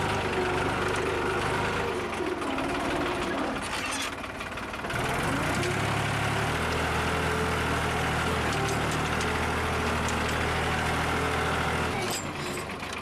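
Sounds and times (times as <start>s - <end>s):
rhythmic clatter of cultivator: 0.0s - 13.0s
tractor diesel engine under load: 0.0s - 13.0s.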